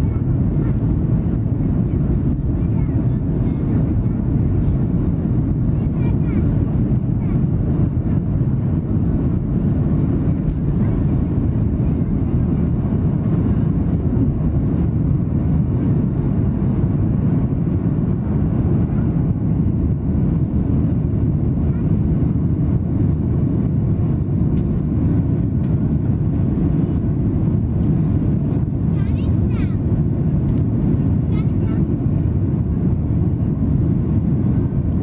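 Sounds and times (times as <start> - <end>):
jet cabin engine rumble: 0.0 - 35.0.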